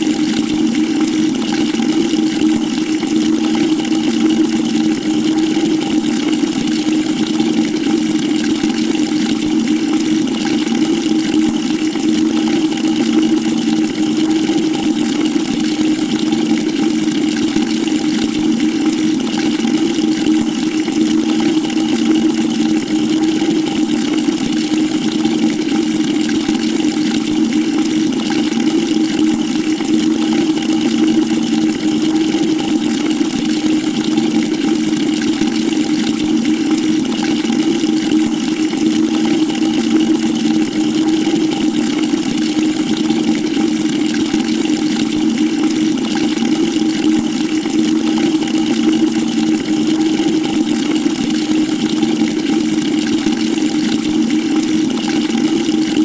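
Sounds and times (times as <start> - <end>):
water running into a bucket: 0.0 - 56.0.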